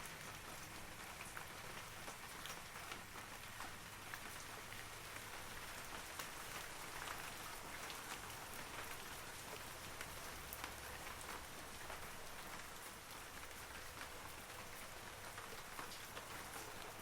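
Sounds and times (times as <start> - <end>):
rain falling on trees: 0.0 - 17.0.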